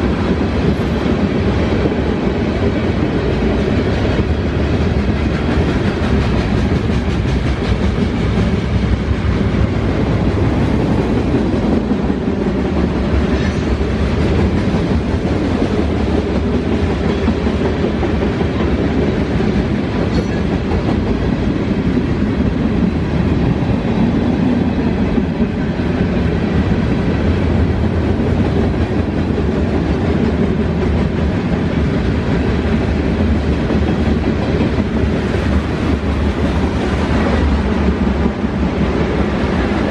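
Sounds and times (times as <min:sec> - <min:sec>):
freight train wheels clicking on rails: 0:00.0 - 0:39.9.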